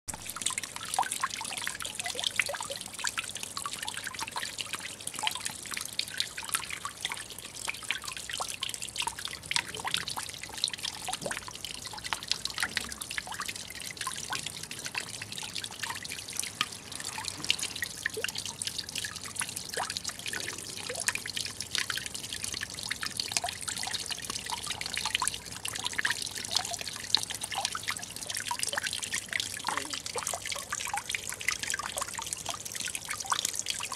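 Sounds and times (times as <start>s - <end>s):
drips on water surface: 0.1s - 33.9s
water trickling into pond: 0.1s - 33.9s.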